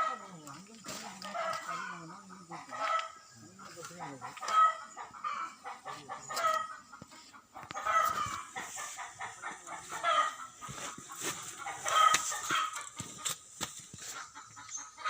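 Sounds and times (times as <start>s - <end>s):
birds calling loudly: 0.0s - 15.0s.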